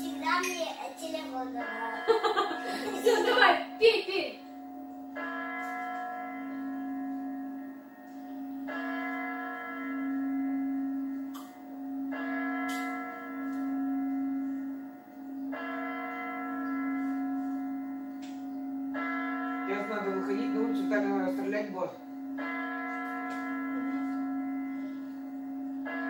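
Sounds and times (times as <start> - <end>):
deep clock bell striking: 0.0 - 26.0.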